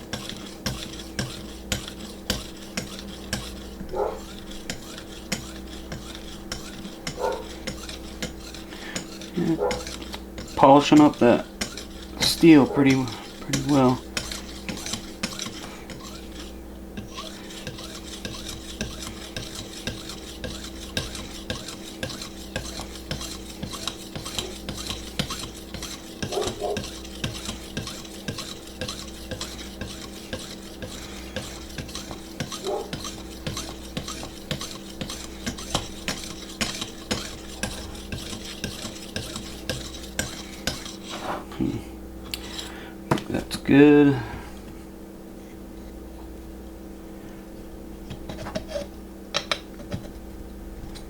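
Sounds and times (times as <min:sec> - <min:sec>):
knife scraping on sharpener: 0:00.0 - 0:41.6, 0:42.3 - 0:42.8, 0:48.3 - 0:50.1.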